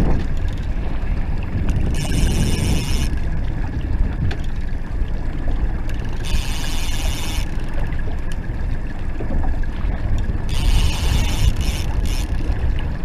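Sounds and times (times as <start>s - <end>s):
water lapping around boat: 0.0s - 13.0s
wind rumbling on microphone: 0.0s - 13.0s.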